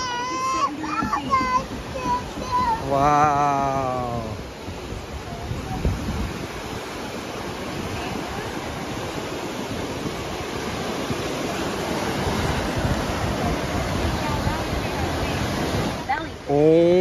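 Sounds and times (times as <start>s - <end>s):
wind rumbling on microphone: 0.0s - 16.5s
waves breaking on pebbly beach: 0.0s - 17.0s.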